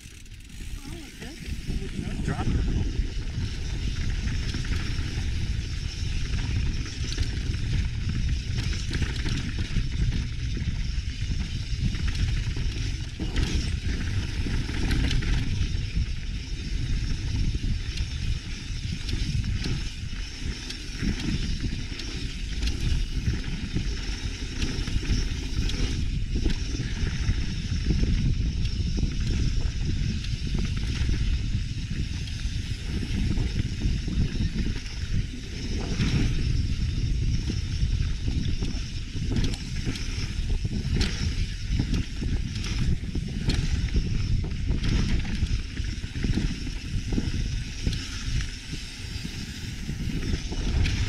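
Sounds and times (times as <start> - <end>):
bike knocking and rattling: 0.0 - 51.0
wind buffeting microphone: 0.0 - 51.0.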